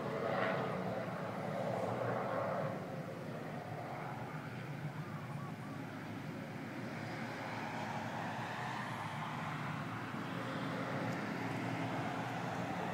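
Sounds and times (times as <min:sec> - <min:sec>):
distant motor rumble: 0:00.0 - 0:12.9.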